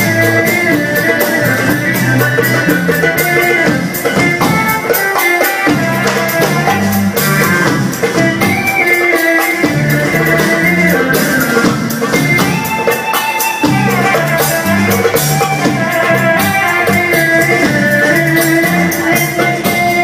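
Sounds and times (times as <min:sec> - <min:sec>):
drum kit: 0:00.0 - 0:20.0
electronic keyboard melody: 0:00.0 - 0:20.0
frame drum tambourines: 0:00.0 - 0:20.0.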